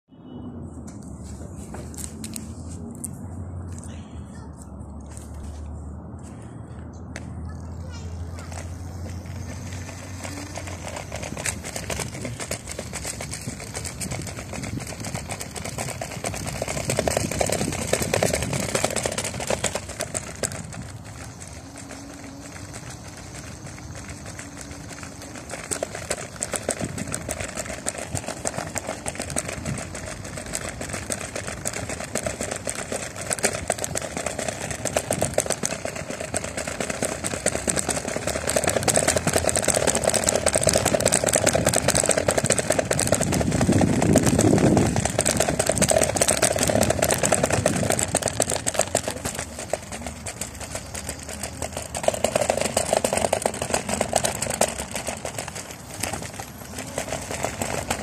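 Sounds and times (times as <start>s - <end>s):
electric scooter hum: 0.1s - 58.0s
scooter rattling: 0.3s - 58.0s.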